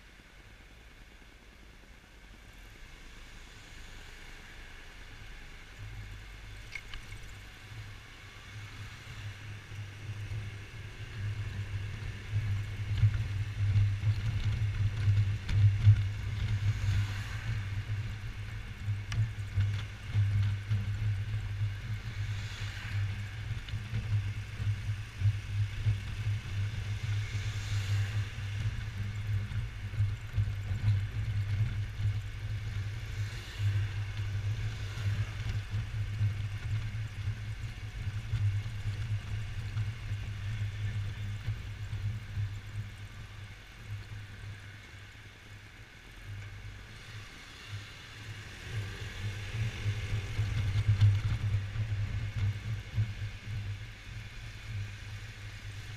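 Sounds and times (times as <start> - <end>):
faint passing traffic: 0.0 - 55.9.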